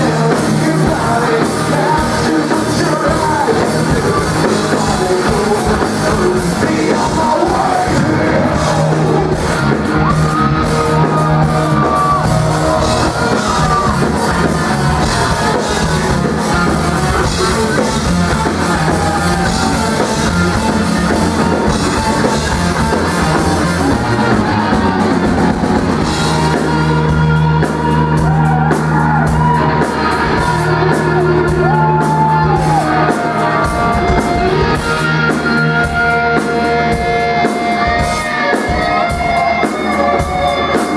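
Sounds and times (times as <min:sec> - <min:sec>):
distorted guitars: 0:00.0 - 0:40.9
drum kit: 0:00.0 - 0:40.9
person singing: 0:00.0 - 0:40.9.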